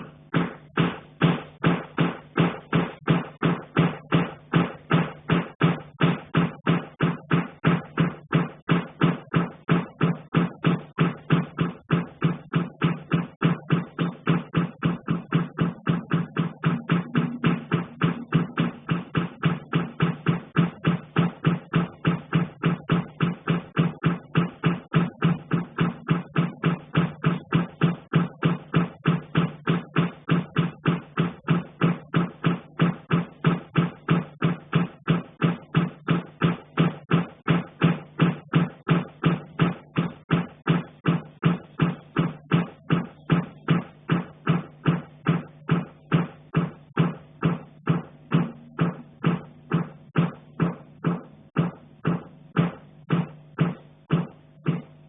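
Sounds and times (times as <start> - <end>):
dull knocking from attic: 0.0 - 55.0.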